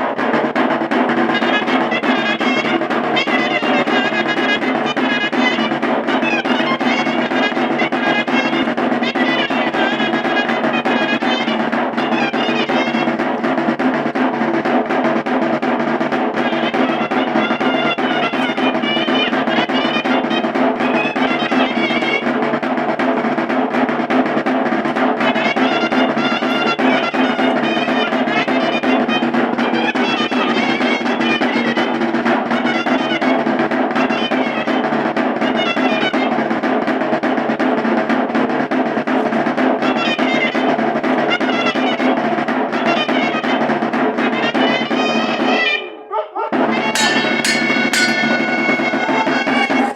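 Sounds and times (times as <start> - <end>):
shawm melody: 0.0 - 37.1, 46.6 - 49.9
drum roll: 0.0 - 45.7, 46.5 - 49.9.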